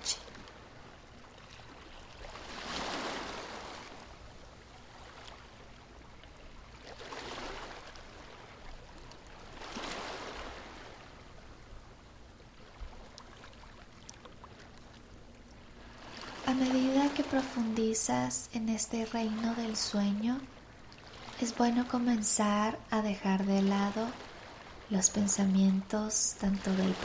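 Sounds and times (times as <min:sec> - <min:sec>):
waves washing on shore: 0:00.0 - 0:05.8, 0:06.7 - 0:11.6, 0:15.6 - 0:27.0.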